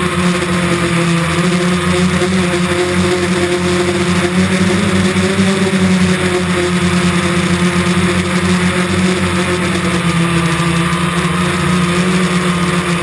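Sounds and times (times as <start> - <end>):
constant rushing noise: 0.0 - 13.0
drone propellers buzzing: 0.0 - 13.0.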